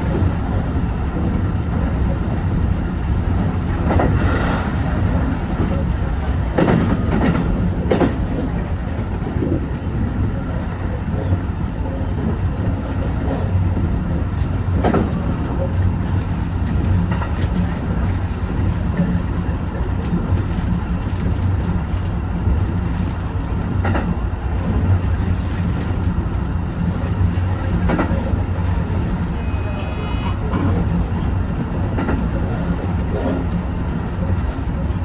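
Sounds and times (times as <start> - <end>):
train low rumble: 0.0 - 35.0
wheels clacking on track: 0.0 - 35.0.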